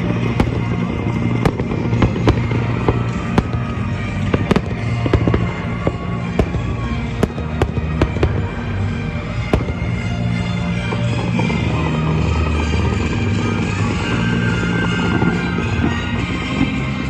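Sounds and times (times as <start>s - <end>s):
fireworks bangs: 0.0s - 17.0s
music: 0.0s - 17.0s.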